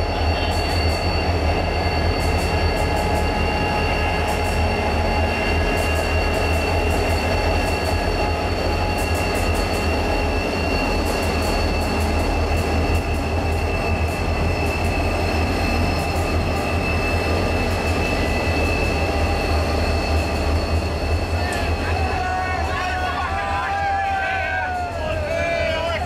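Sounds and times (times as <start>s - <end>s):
locomotive engine drone and whine: 0.0s - 26.0s.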